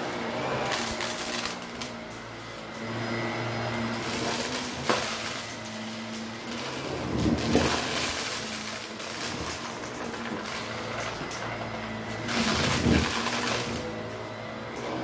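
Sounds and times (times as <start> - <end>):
debris crunching in vacuum: 0.0 - 15.0
upright vacuum running on carpet: 0.0 - 15.0.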